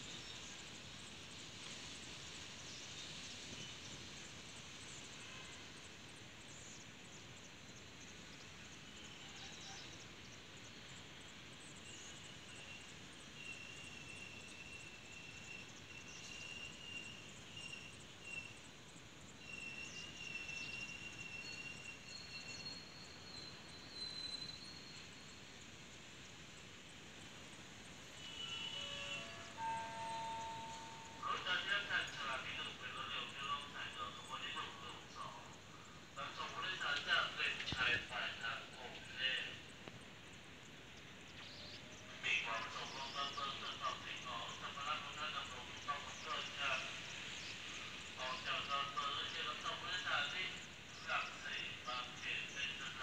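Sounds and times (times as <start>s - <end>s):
train rumbling on rails: 0.1s - 53.0s.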